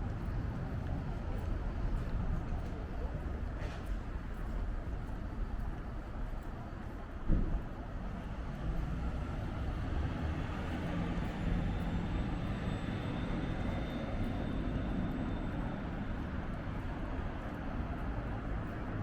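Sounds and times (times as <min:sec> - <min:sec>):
city ambience: 0:00.0 - 0:19.0.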